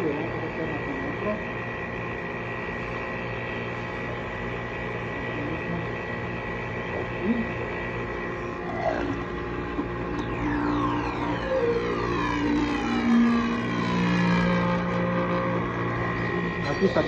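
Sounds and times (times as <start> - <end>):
mill motor humming and whining: 0.0 - 17.0.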